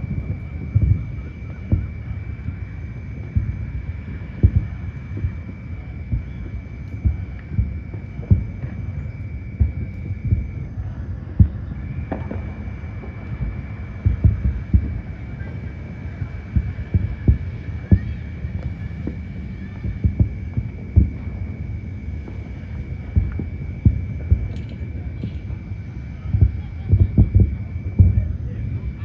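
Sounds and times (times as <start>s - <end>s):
distant fireworks booming: 0.0s - 29.0s
faint steady high tone: 0.0s - 29.0s.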